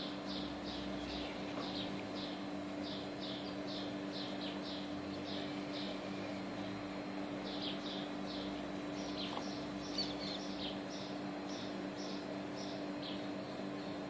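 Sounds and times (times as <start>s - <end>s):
steady low hum: 0.0s - 14.0s
small bird chirping: 0.2s - 6.4s, 7.4s - 14.0s.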